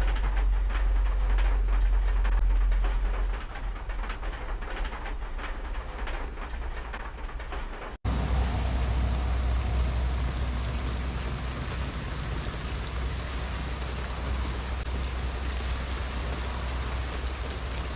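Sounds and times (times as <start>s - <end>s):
heavy rain on a van roof: 0.0s - 17.9s
raindrop taps: 0.0s - 17.9s.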